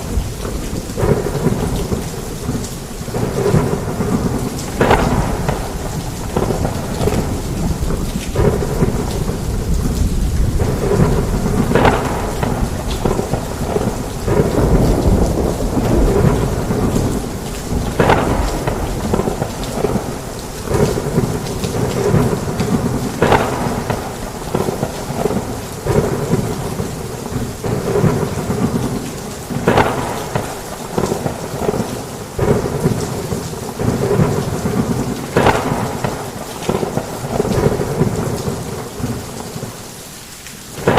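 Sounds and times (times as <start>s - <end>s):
low thunder rumbling: 0.0s - 39.8s
heavy rain: 0.0s - 40.9s.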